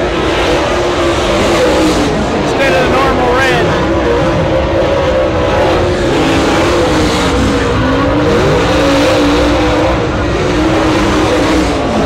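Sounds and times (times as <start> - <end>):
race car engine at speed: 0.0 - 12.0.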